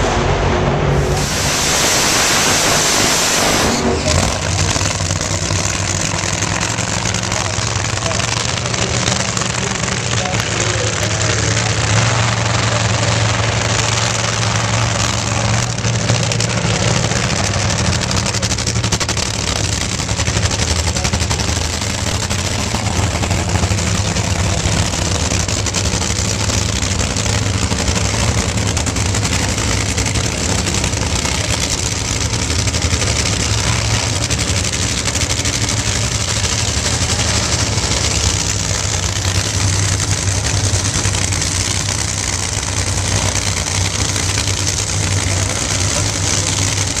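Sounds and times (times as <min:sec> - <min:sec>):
dragster engines running loudly: 0:00.0 - 0:47.0.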